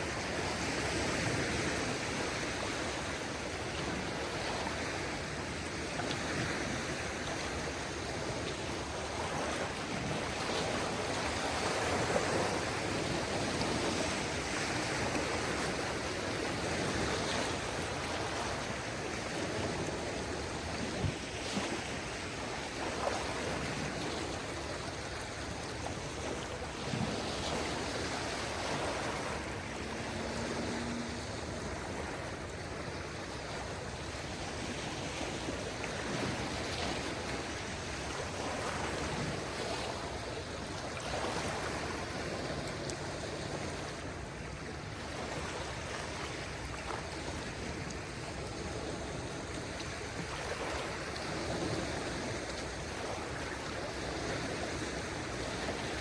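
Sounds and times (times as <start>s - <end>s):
gentle waves washing onto beach: 0.0s - 56.0s.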